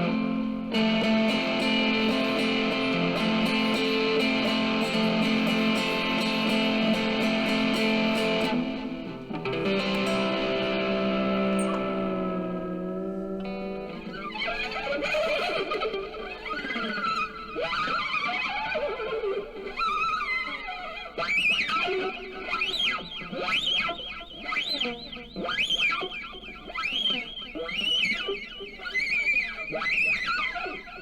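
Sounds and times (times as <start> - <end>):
distorted electric guitar: 0.0 - 31.0.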